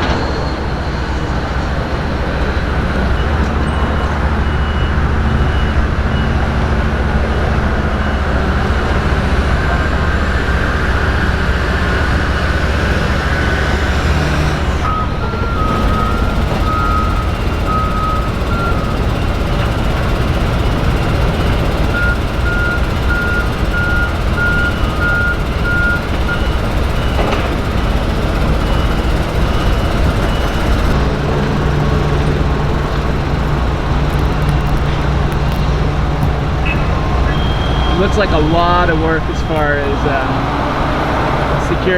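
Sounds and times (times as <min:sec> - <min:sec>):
heavy equipment rumble: 0:00.0 - 0:41.9
backup alarms beeping: 0:00.1 - 0:10.4, 0:11.2 - 0:34.6, 0:36.4 - 0:41.0.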